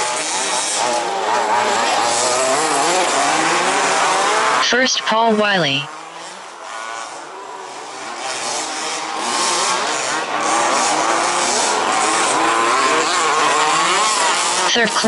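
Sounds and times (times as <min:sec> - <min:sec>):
small engines revving: 0:00.0 - 0:15.0.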